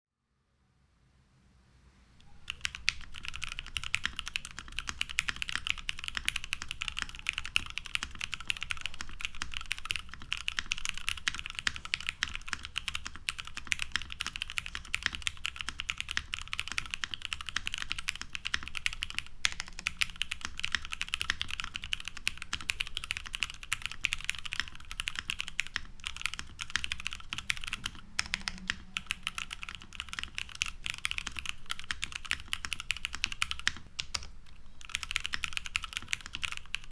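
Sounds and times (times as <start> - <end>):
fast typing on mechanical keyboard: 2.4 - 36.9.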